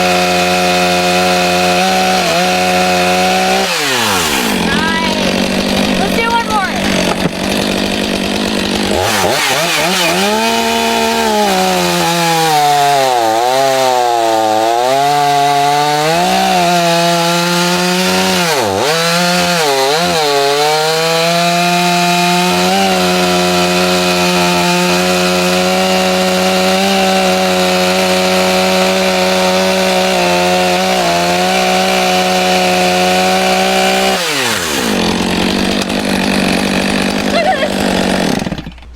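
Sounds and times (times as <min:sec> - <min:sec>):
chainsaw cutting: 0:00.0 - 0:38.9.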